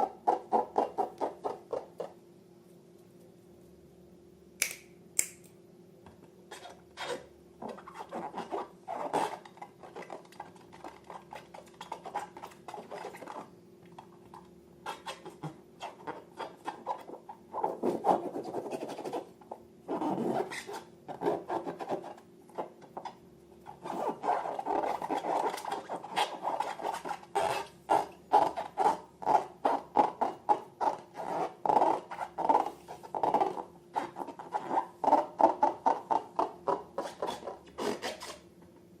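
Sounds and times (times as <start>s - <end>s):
balloons being rubbed: 0.0s - 2.1s, 6.5s - 13.5s, 14.3s - 22.8s, 23.6s - 38.4s.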